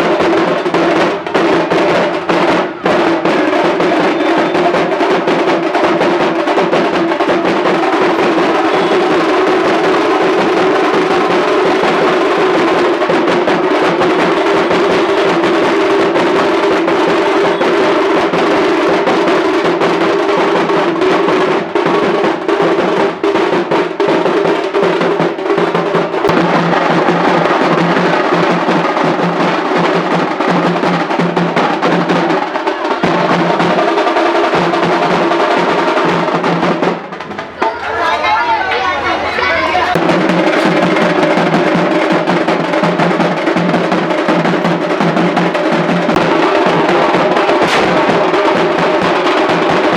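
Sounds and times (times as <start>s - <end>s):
loud music with drumming: 0.0s - 37.8s, 39.8s - 49.9s.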